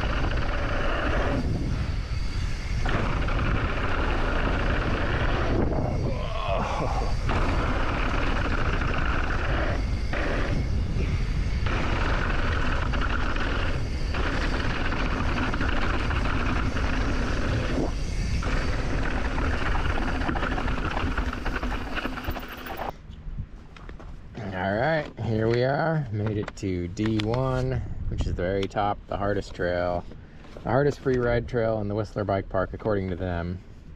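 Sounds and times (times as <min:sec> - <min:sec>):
wind buffeting on microphone: 0:00.0 - 0:23.6, 0:26.1 - 0:33.0.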